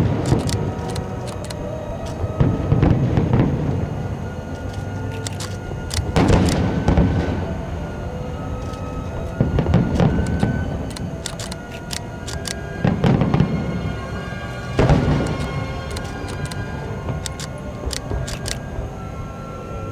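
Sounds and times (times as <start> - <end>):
fireworks booming: 0.0 - 11.2, 12.6 - 19.0
fireworks crackling pops: 0.0 - 18.9.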